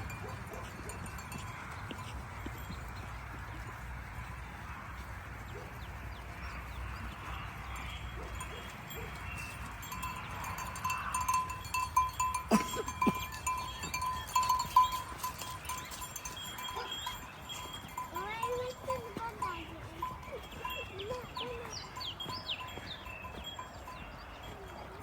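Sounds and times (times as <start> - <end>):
bell clinking: 0.0 - 3.2, 7.7 - 25.0
farm livestock ambience: 0.0 - 25.0.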